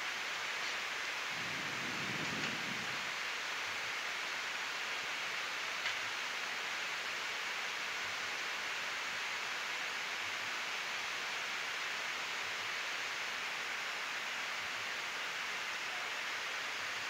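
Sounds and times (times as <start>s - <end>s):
rushing airflow hiss: 0.0s - 17.0s.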